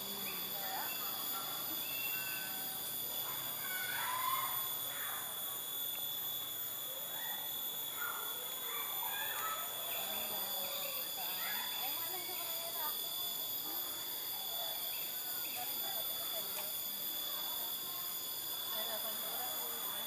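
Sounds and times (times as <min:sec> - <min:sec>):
insects droning: 0:00.0 - 0:20.0
short insect chirps: 0:00.0 - 0:20.0.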